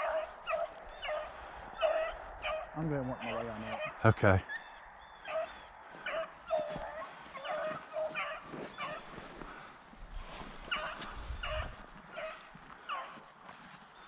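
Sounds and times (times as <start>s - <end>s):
beagles baying: 0.0s - 14.0s.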